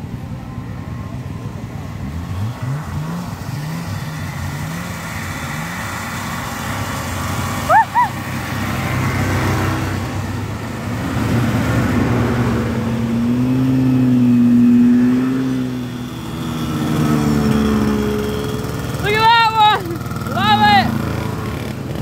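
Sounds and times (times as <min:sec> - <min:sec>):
snowmobiles driving past: 0:00.0 - 0:22.0.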